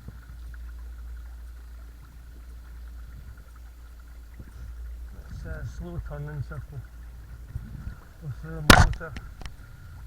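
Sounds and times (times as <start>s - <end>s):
electric trolling motor humming: 0.0s - 10.0s
faint high whine: 0.0s - 10.0s
light water noise: 0.0s - 10.0s.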